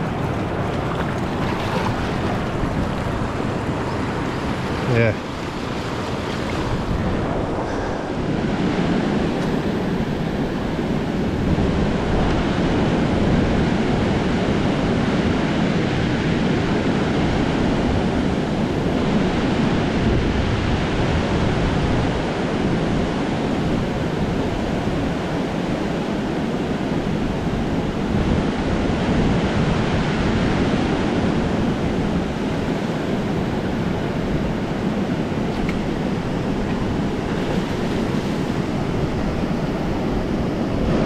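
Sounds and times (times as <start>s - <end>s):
rushing water: 0.0s - 41.0s
wind on microphone: 0.0s - 41.0s.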